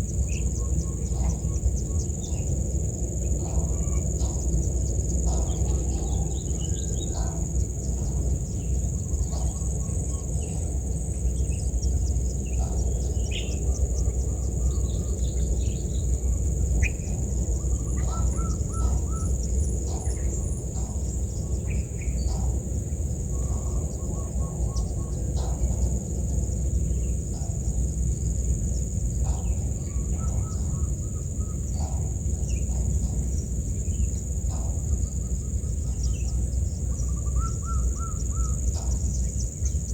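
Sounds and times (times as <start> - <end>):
bird calls and chirps: 0.0 - 39.9.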